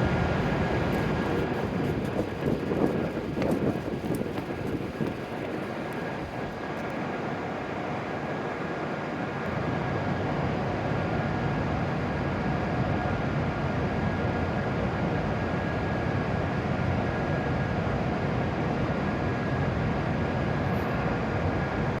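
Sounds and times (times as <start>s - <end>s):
train mechanical hum: 0.0s - 22.0s.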